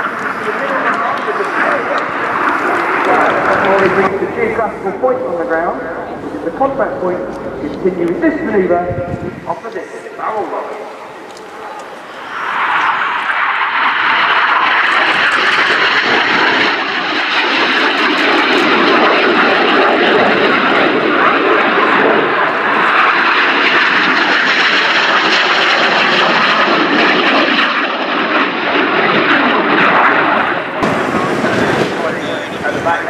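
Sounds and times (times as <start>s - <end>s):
jet engines roaring overhead: 0.0s - 33.0s.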